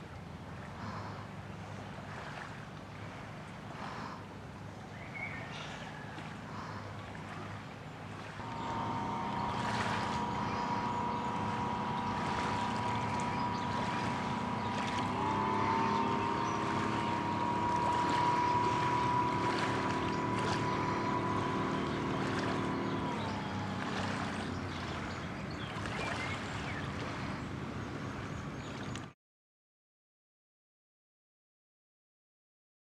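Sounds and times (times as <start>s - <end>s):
motorboat engine running: 0.0s - 29.2s.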